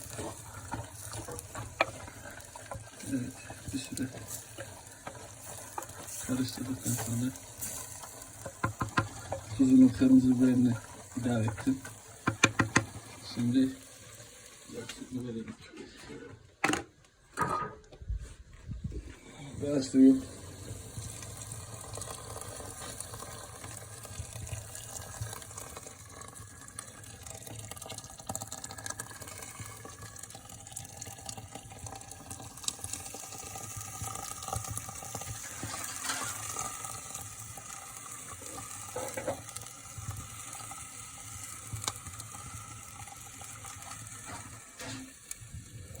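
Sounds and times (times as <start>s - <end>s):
water pouring into pot: 0.0s - 15.4s, 19.4s - 46.0s
pot sizzling: 0.0s - 15.5s, 19.2s - 46.0s.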